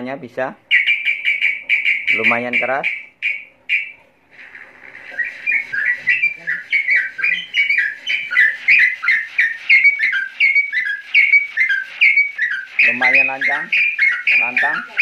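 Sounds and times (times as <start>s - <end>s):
recorded birdsong through loudspeaker: 0.7s - 3.9s, 4.9s - 15.0s.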